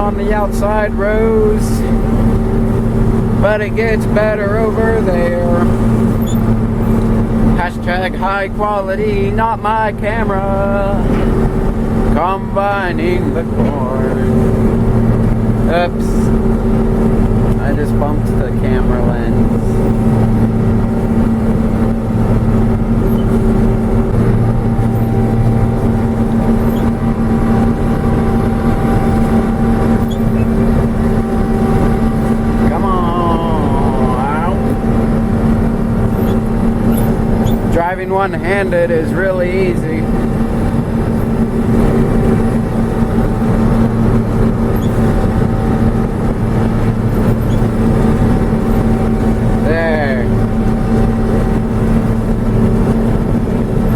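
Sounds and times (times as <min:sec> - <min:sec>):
combine harvester machinery drone: 0:00.0 - 0:53.9.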